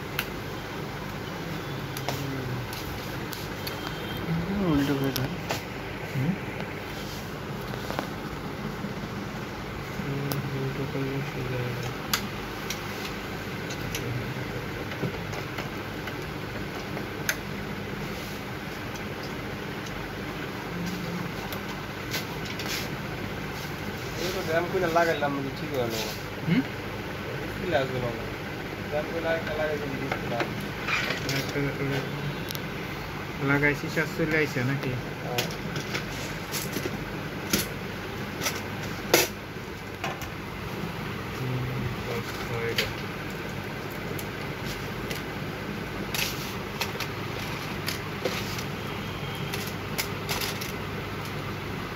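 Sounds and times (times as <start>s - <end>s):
steady background noise: 0.0s - 51.9s.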